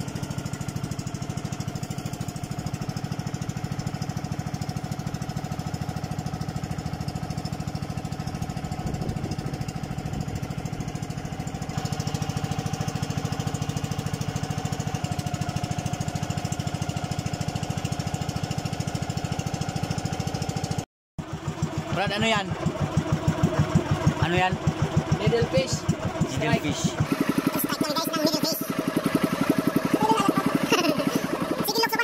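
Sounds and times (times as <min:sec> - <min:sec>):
boat engine chugging: 0:00.0 - 0:32.0.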